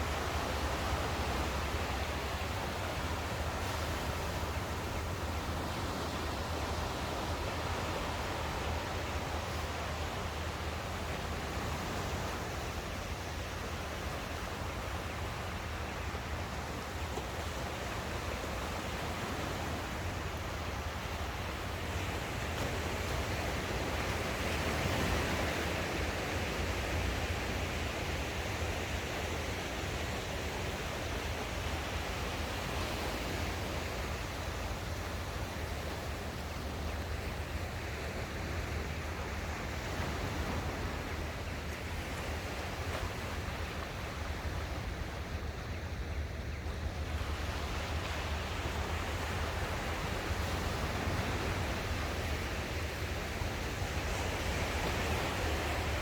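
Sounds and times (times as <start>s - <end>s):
waves washing on shore: 0.0s - 56.0s.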